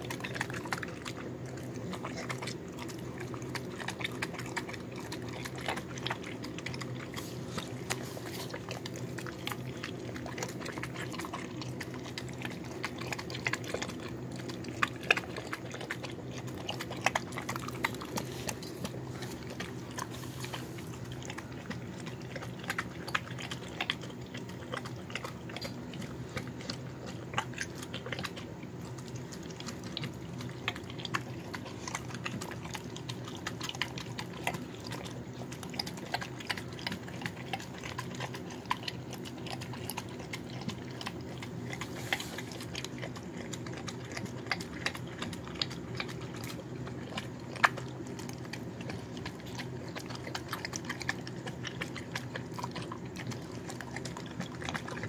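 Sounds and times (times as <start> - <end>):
dog chewing and lapping: 0.0 - 55.0
steady low hum: 0.0 - 55.0.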